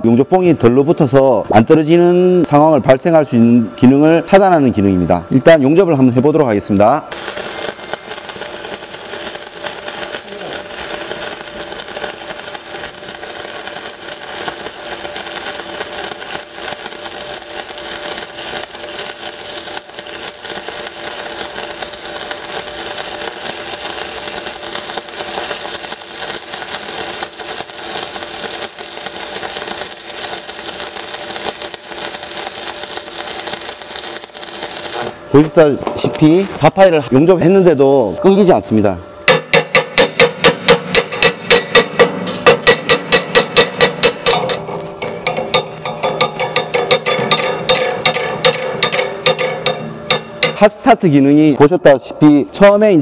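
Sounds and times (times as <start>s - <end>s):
welding arc crackling sizzle: 0.0s - 53.0s.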